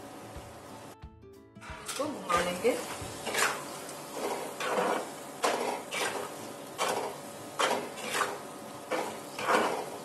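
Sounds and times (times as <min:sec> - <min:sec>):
spatula scraping a pan: 0:01.7 - 0:10.0.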